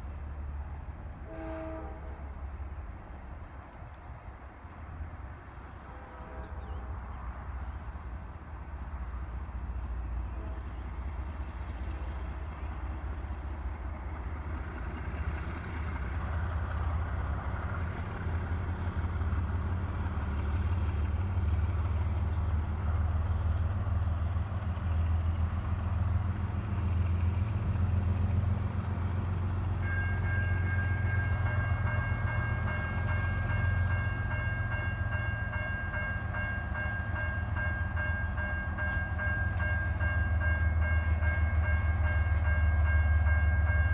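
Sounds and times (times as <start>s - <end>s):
diesel locomotives rumbling: 0.0s - 43.9s.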